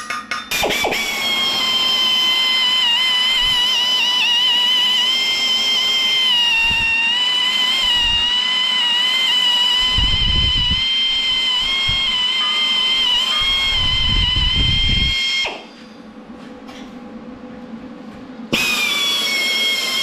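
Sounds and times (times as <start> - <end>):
angle grinder whining: 0.5 - 15.9, 18.5 - 20.0.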